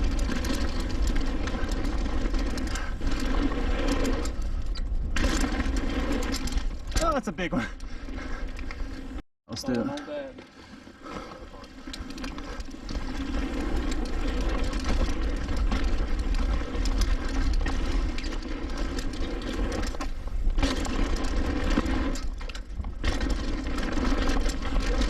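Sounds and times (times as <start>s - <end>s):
tyres rolling over dirt and rock: 0.0s - 7.4s, 10.4s - 25.0s
bike rattling with small clicks: 0.0s - 25.0s.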